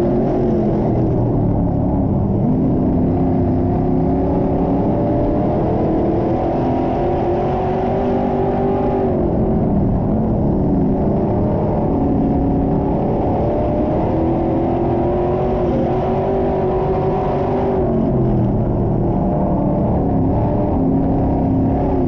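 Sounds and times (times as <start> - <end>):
muffled race car engine: 0.0 - 22.0.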